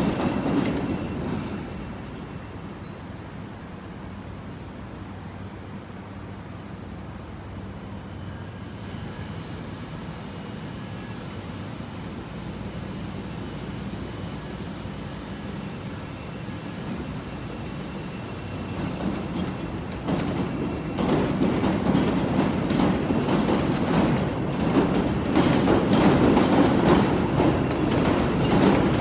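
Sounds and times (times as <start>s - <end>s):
city background noise: 0.0s - 29.0s
train rumble: 0.0s - 29.0s.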